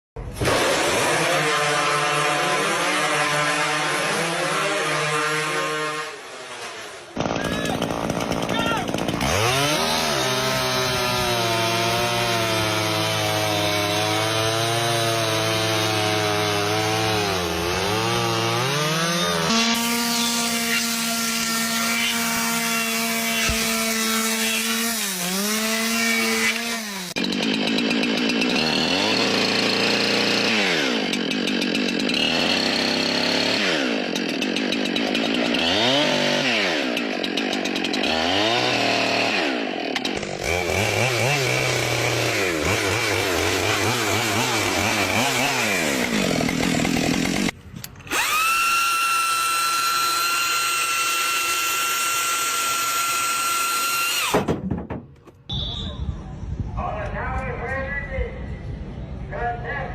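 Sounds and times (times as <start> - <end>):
chainsaw cutting wood: 0.2 - 55.0.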